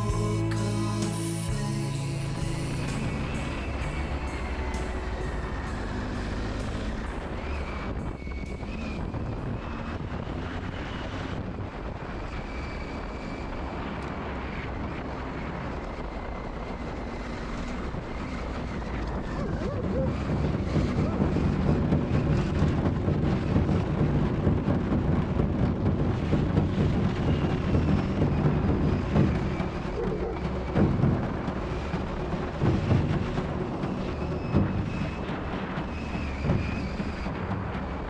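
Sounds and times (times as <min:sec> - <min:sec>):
motorcycle engine rumble: 0:00.0 - 0:38.0
wind on microphone: 0:00.0 - 0:38.0.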